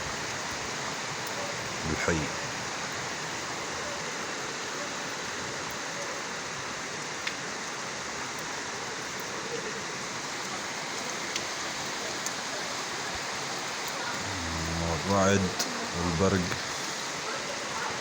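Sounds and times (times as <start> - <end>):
heavy rain falling: 0.0 - 18.0
rainwater rushing along street: 0.0 - 18.0.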